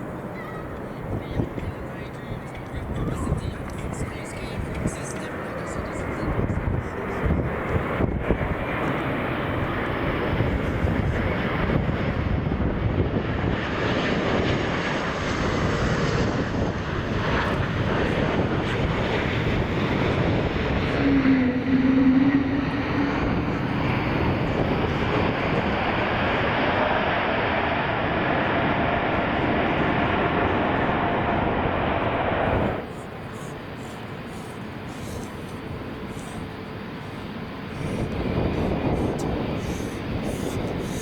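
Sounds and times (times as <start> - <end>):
aircraft engines running: 0.0 - 41.0
low hum: 3.6 - 41.0.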